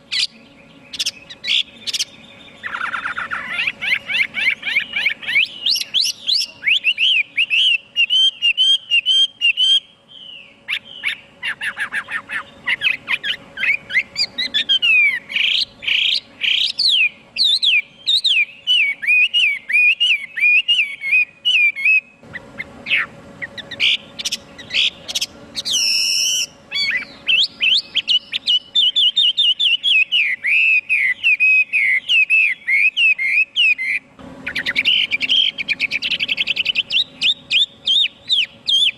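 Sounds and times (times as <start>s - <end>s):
bird singing whistled trills: 0.0s - 38.9s.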